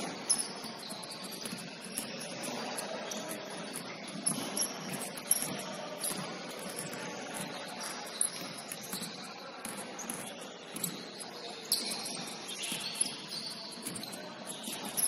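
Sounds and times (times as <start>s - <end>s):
basketballs bouncing on wooden floor: 0.0s - 15.0s
sneaker squeaks: 0.0s - 15.0s.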